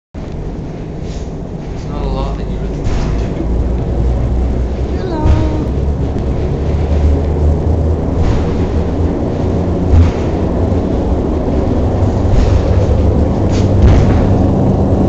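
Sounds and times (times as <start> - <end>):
funicular car rumbling on track: 0.2 - 15.0.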